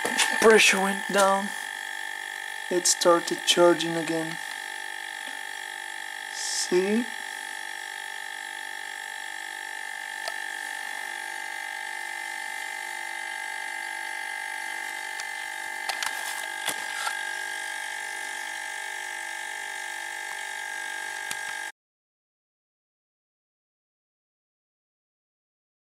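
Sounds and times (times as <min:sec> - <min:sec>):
compressor whining: 0:00.0 - 0:21.7.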